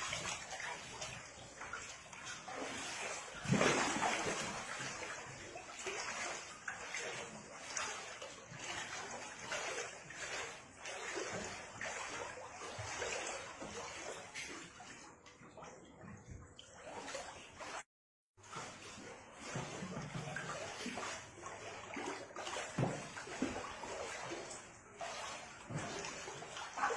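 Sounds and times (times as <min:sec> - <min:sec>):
water splashing and sloshing: 0:00.0 - 0:26.9.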